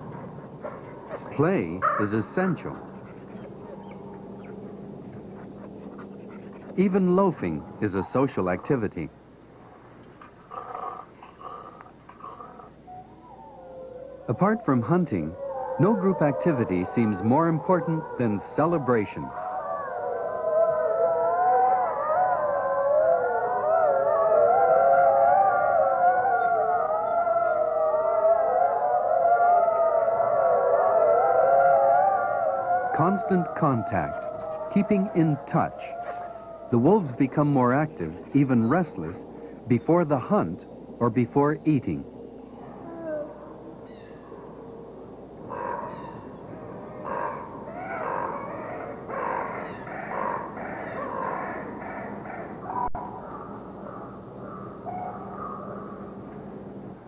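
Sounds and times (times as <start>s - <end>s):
wolf pack howling: 0.0s - 8.9s, 10.5s - 40.6s, 42.4s - 56.2s
rapid animal calls: 0.0s - 9.0s, 10.2s - 40.7s, 45.5s - 56.1s.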